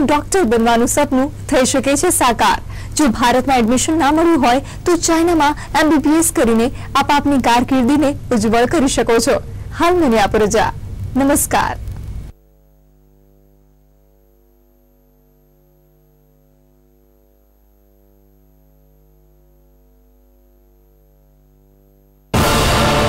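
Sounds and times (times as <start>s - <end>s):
faint electrical mains hum: 0.0s - 22.4s.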